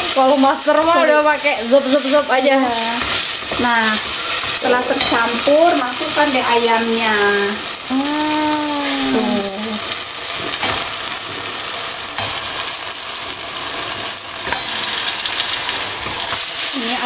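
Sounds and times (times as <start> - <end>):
oil and paste sizzling in a pot: 0.0 - 17.0.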